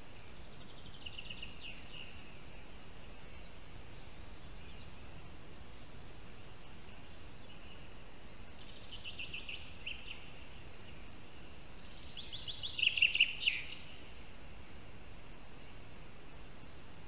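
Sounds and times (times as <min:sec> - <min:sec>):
bird singing: 0:00.0 - 0:16.0.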